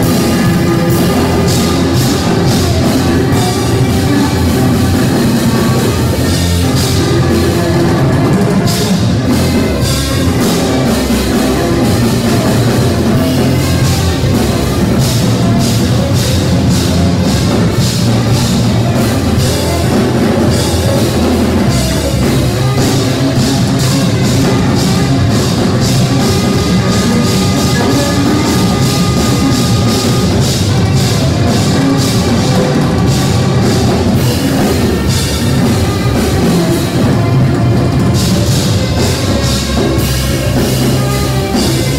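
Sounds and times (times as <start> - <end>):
drum kit with cymbals: 0.0 - 41.9
electric bass: 0.0 - 41.9
tenor saxophone: 0.0 - 41.9.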